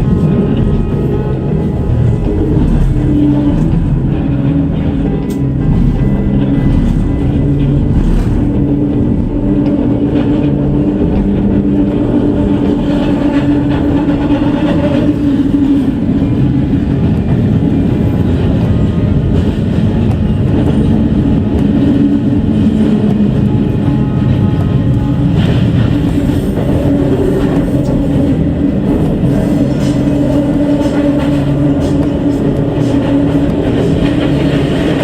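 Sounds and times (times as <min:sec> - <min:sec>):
subway train rumbling: 0:00.0 - 0:35.0.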